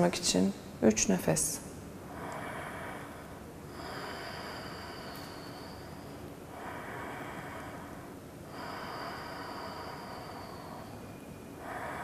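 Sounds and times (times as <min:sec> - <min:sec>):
woman breathing slowly: 0:02.0 - 0:12.0.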